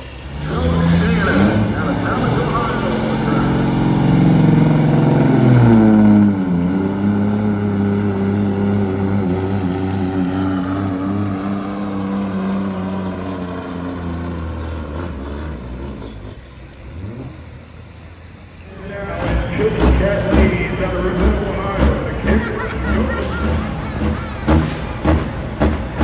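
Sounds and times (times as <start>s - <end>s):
truck diesel engine under load: 0.0s - 26.0s.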